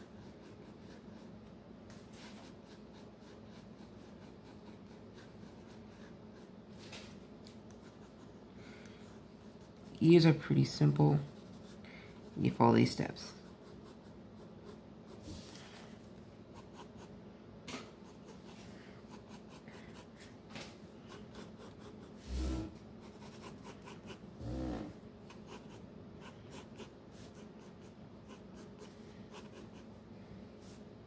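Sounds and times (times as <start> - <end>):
pencil scratching on paper: 0.0 - 6.6, 7.7 - 8.4, 9.0 - 15.8, 16.5 - 17.2, 17.8 - 20.3, 21.0 - 24.3, 25.2 - 29.9.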